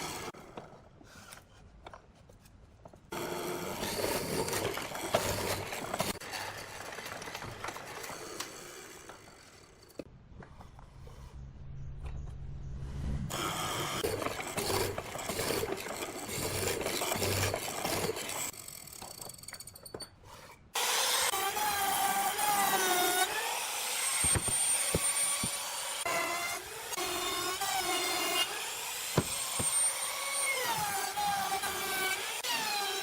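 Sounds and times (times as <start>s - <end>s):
sawing and rasping wood: 0.0s - 1.7s, 3.1s - 11.5s, 13.3s - 19.2s, 20.3s - 33.0s.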